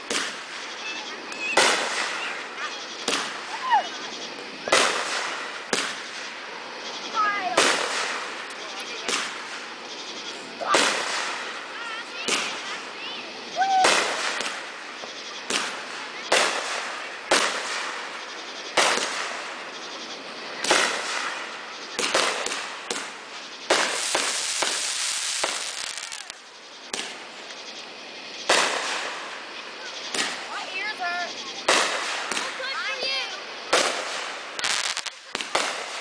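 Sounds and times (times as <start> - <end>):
fireworks bangs: 0.0 - 36.0
fireworks hissing: 0.0 - 36.0.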